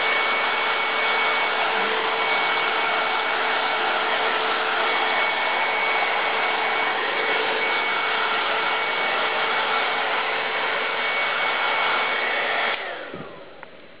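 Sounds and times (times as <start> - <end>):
motor spinning down: 0.0 - 13.6
hair dryer running: 0.0 - 14.0.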